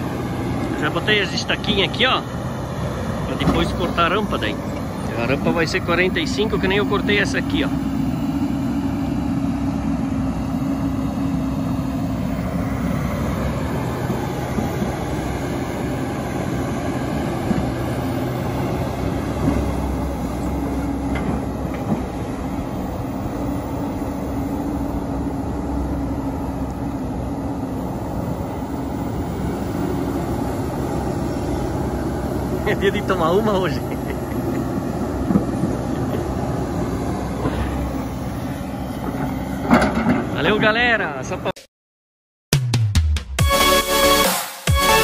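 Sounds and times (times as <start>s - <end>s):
excavator diesel engine running: 0.0s - 41.5s.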